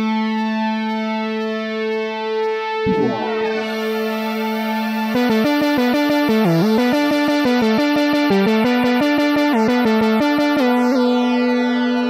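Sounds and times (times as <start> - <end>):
synthesizer music: 2.1 - 12.0.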